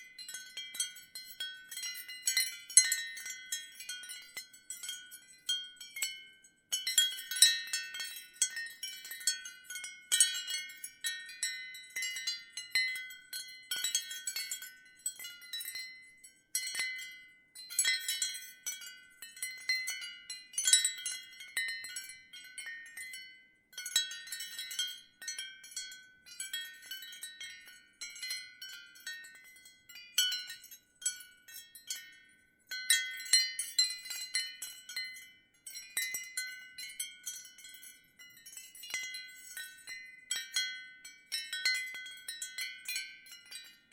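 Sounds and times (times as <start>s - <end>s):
ceramic wind chimes clinking: 0.0s - 43.9s.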